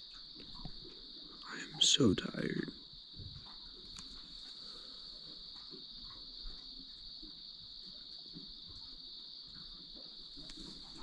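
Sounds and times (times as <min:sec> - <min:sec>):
faint small ticks: 0:00.0 - 0:01.6, 0:02.7 - 0:11.0
crickets trilling: 0:00.0 - 0:11.0.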